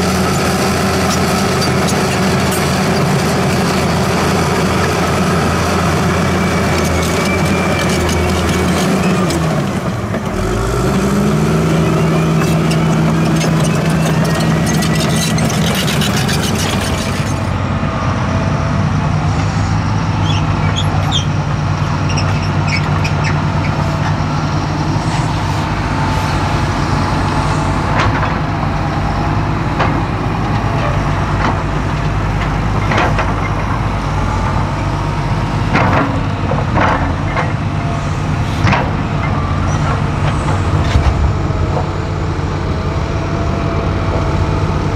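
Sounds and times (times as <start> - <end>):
bulldozer diesel engine revving: 0.0 - 44.9
tractor diesel engine running: 0.0 - 44.9.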